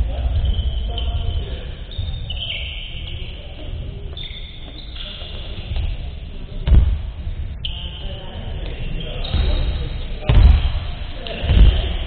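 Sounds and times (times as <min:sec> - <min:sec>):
low hall rumble: 0:00.0 - 0:12.0.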